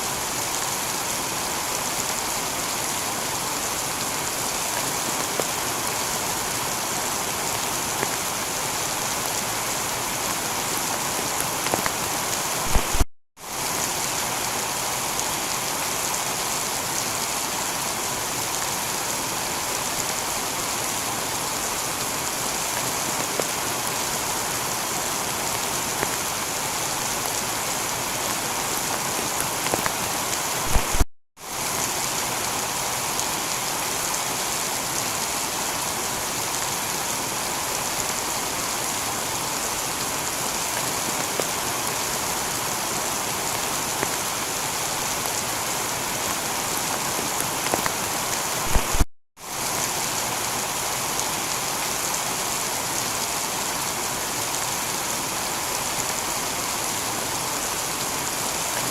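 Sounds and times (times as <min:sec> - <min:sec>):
heavy rain on tiled roof: 0:00.0 - 0:58.9.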